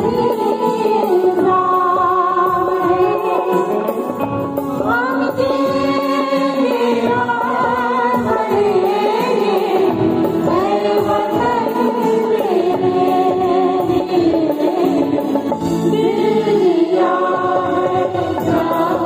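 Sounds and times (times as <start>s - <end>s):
mixed choir singing: 0.0s - 19.0s.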